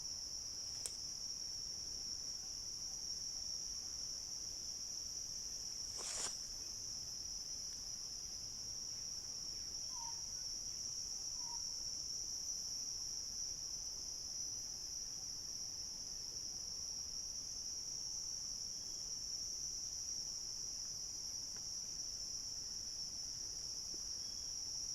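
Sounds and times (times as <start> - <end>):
crickets trilling: 0.0 - 13.2, 16.9 - 24.9.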